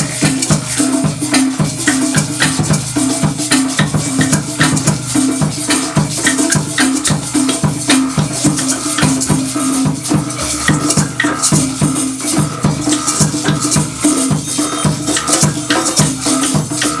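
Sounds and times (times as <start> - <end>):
drum strikes: 0.0 - 17.0
low pitched drum pattern: 0.0 - 17.0
shakers rattling: 0.0 - 17.0.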